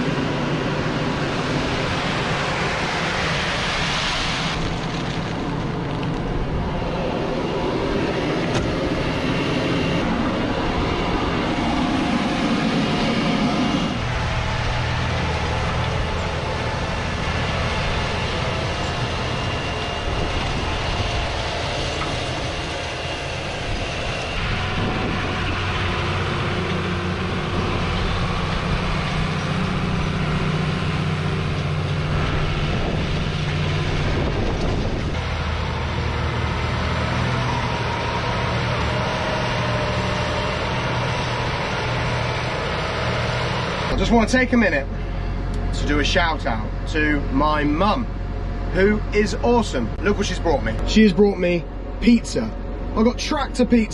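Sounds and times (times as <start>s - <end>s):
rough rushing noise: 0.0s - 46.8s
tractor diesel engine under load: 0.0s - 53.9s.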